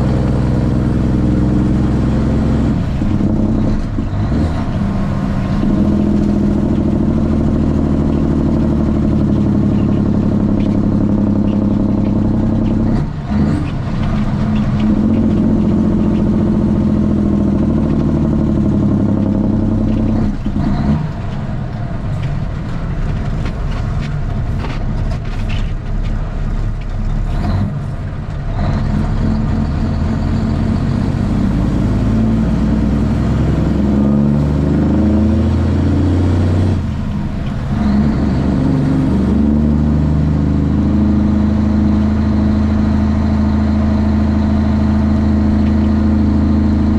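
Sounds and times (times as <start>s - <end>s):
diesel truck engine under load: 0.0s - 46.9s.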